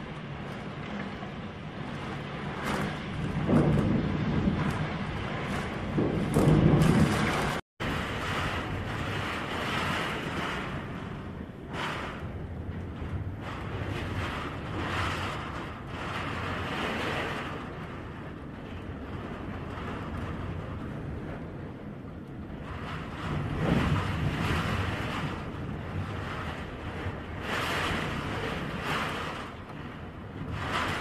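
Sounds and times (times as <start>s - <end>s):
wind roaring and gusting: 0.0s - 31.0s.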